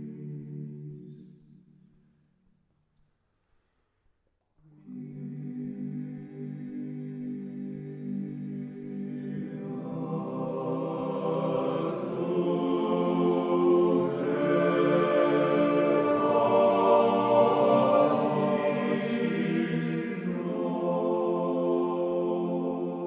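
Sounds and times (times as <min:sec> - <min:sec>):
choir chanting: 0:00.0 - 0:01.6, 0:04.7 - 0:23.0.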